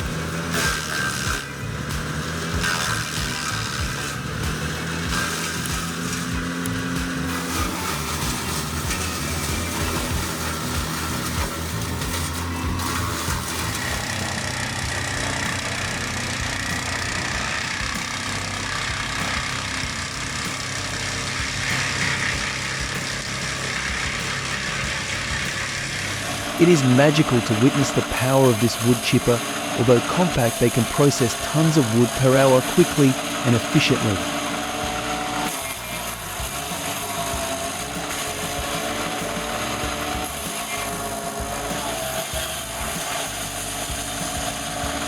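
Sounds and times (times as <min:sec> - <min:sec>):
wood chipper running: 0:00.0 - 0:45.0.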